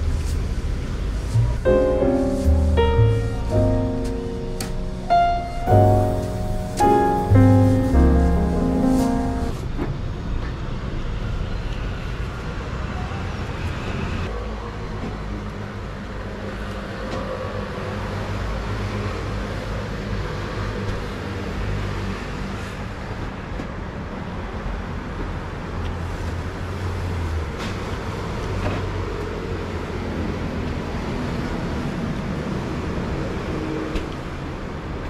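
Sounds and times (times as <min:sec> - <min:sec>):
car engines and road noise: 0:00.0 - 0:35.0.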